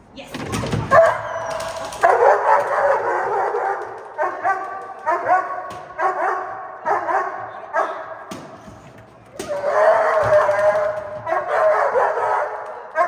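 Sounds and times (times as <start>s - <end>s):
dog barking: 0.9s - 8.3s, 9.5s - 13.0s.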